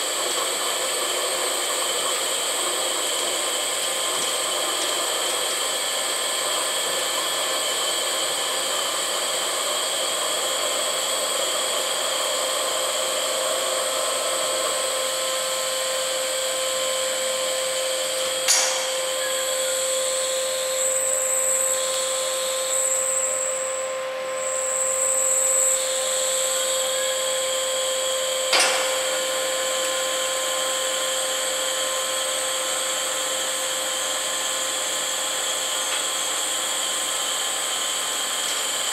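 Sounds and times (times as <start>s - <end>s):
motor and gearbox whine: 0.0s - 38.9s.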